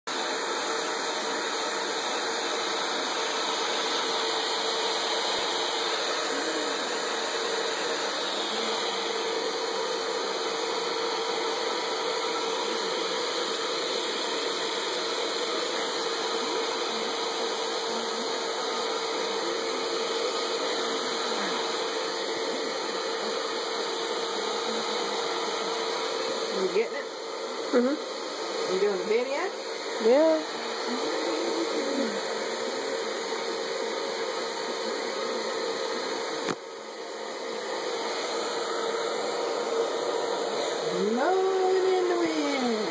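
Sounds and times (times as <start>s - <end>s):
blow dryer running: 0.1s - 42.9s.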